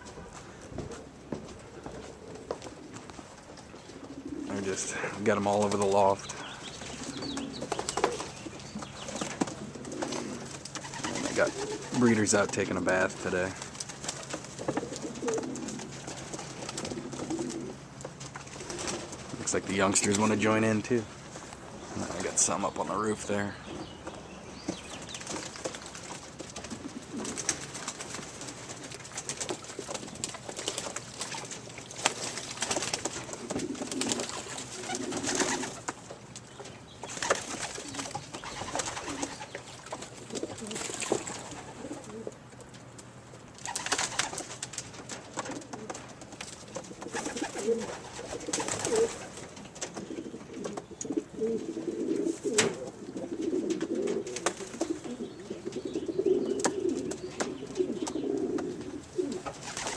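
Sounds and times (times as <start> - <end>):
pigeons cooing: 0.0 - 21.0, 21.7 - 42.6, 45.4 - 59.9.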